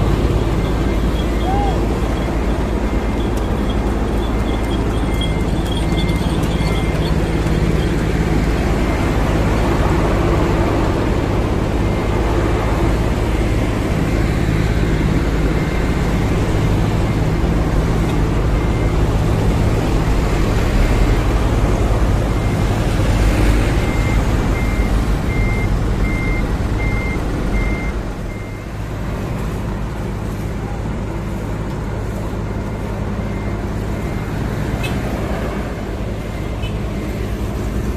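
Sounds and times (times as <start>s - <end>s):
reversing alarm beeping: 0.0s - 28.9s, 32.0s - 37.9s
heavy engines humming: 0.0s - 37.9s
traffic noise: 0.0s - 37.9s.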